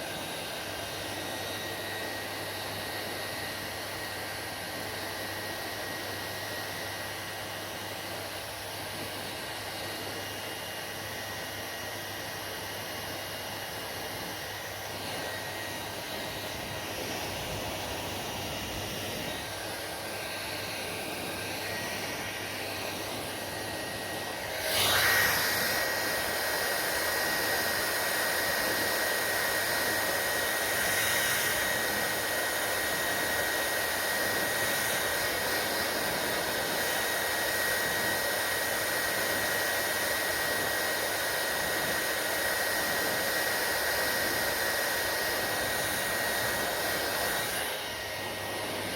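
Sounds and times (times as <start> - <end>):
hair dryer hissing: 0.0 - 48.9.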